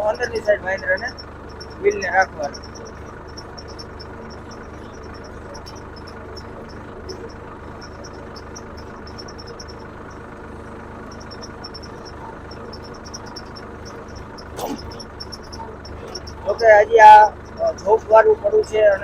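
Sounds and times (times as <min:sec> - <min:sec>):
insects chirping: 0:00.0 - 0:19.0
tractor engine running under load: 0:00.0 - 0:19.0.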